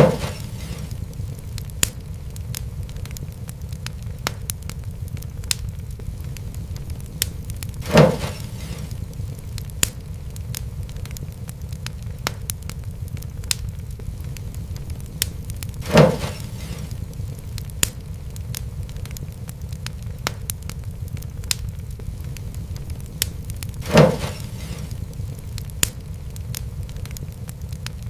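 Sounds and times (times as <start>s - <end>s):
fire crackling: 0.0s - 28.0s
fire flame rumble: 0.0s - 28.0s
fire popping: 0.0s - 28.0s.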